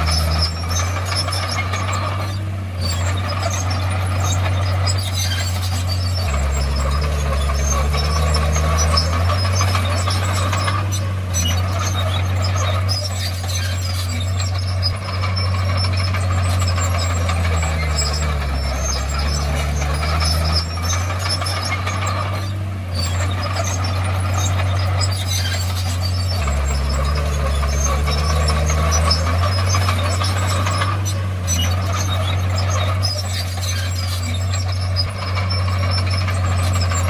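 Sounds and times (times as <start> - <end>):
bulldozer diesel engine running: 0.0 - 37.0
tracks clanking and squeaking: 0.0 - 37.0.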